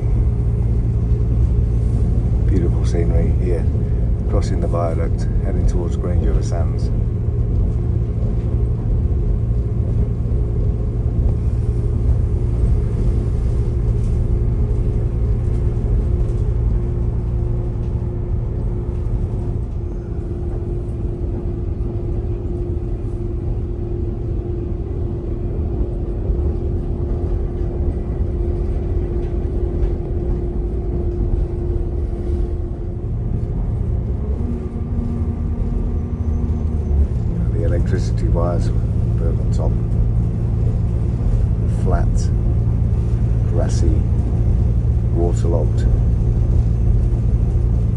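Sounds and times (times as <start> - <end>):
constant hum: 0.0 - 47.9
train wheels rumbling: 0.0 - 47.9.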